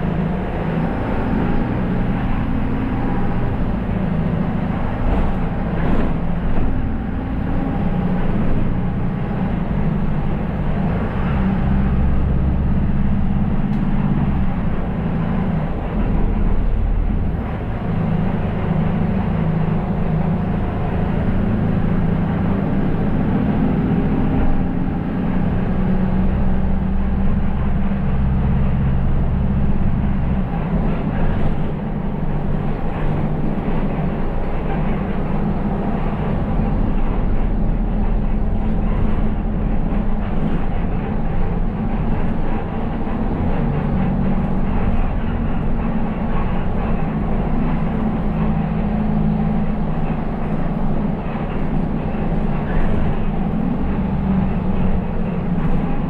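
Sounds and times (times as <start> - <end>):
bus engine and road noise: 0.0 - 56.0.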